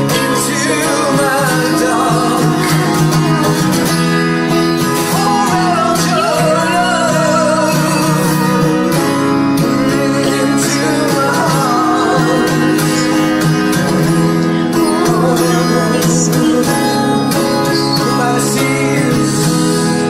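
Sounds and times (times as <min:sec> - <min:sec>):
guitar accompaniment: 0:00.0 - 0:20.0
person singing with vibrato: 0:00.0 - 0:20.0.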